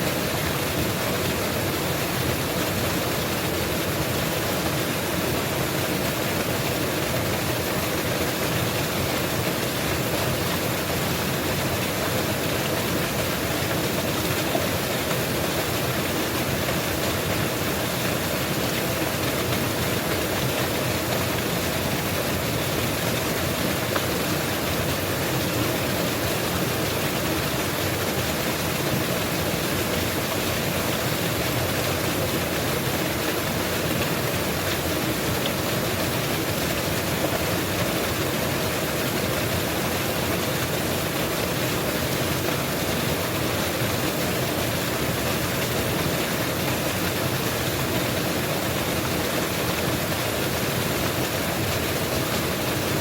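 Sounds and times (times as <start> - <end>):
waterfall pouring: 0.0 - 53.0.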